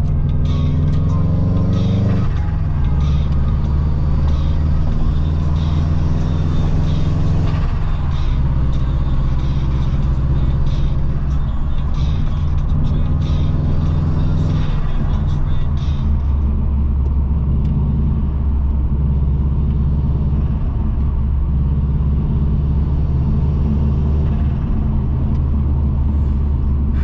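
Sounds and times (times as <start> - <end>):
background music with steady beat: 0.0 - 27.0
car engine changing gear: 0.0 - 27.0.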